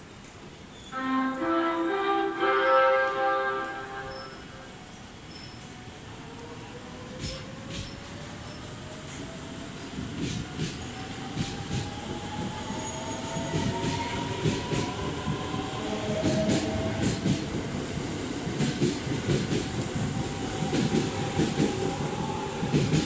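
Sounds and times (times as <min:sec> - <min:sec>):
train cars rumbling past: 0:01.5 - 0:23.0.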